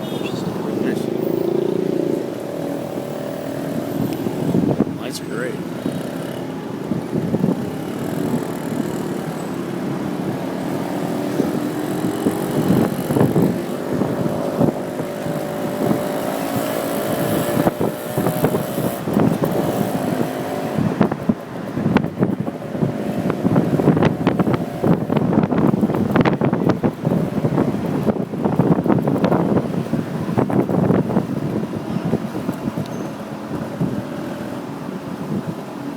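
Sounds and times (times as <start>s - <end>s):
road noise: 0.0s - 35.9s
motorcycle engine speeding up: 0.1s - 5.0s, 5.6s - 32.8s.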